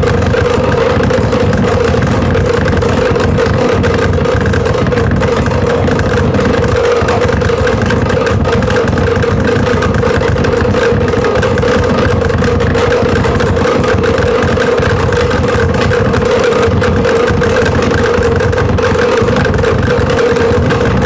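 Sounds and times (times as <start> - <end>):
rough engine-like drone: 0.0 - 21.0.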